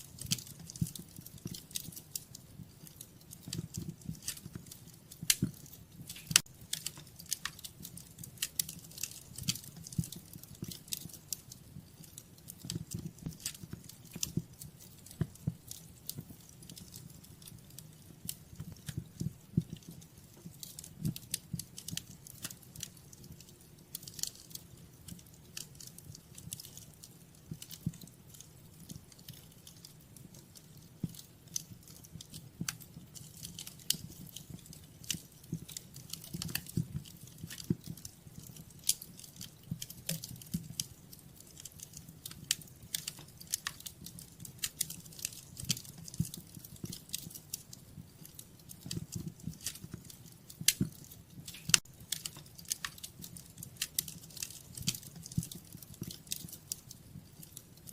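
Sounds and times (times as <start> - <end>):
low rumble of burning logs: 0.0 - 57.9
wood fire crackling and popping: 0.0 - 57.9.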